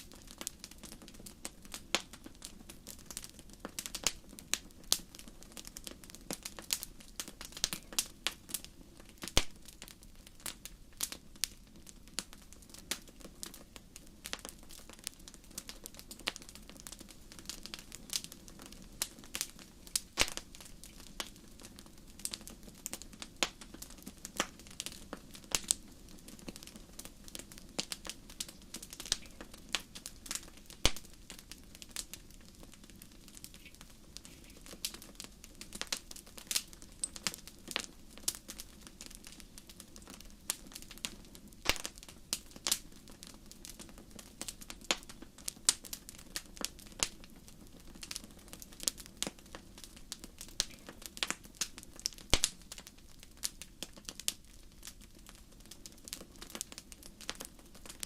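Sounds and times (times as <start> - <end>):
fire crackling with sharp pops: 0.0 - 58.0.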